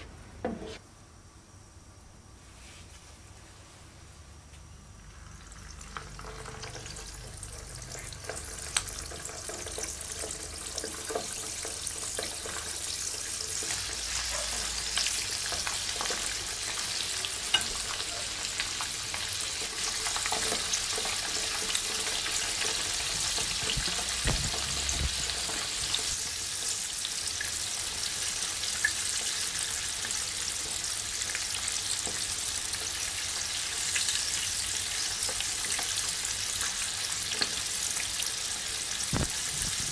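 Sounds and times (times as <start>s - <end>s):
fish sizzling in hot oil: 5.1s - 39.9s.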